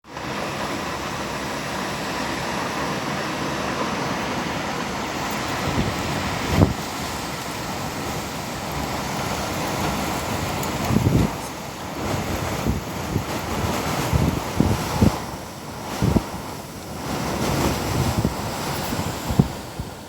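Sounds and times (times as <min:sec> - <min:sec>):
strong wind blowing: 0:00.2 - 0:20.0
wind gust buffeting microphone: 0:00.8 - 0:20.0.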